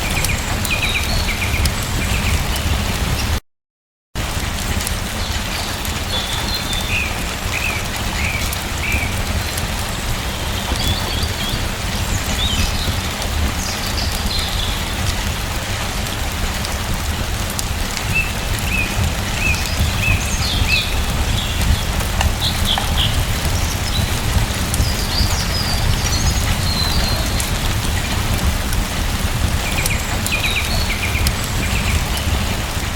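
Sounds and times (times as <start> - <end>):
small birds chirping: 0.0 - 3.3, 5.2 - 15.3, 18.0 - 32.6
steady rain falling: 0.0 - 3.4, 4.2 - 32.9.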